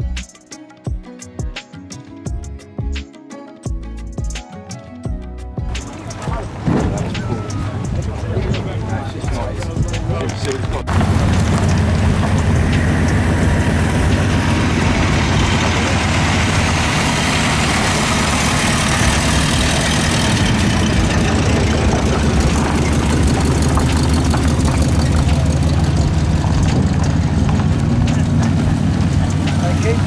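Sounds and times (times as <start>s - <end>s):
vehicle engine idling: 5.7s - 30.0s.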